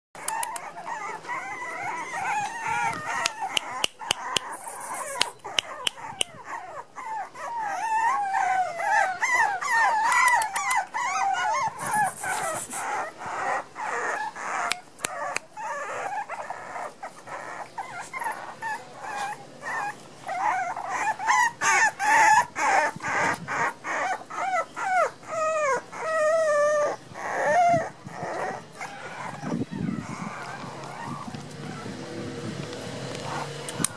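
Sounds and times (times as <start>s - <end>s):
puppies whimpering and squealing: 0.2s - 33.9s.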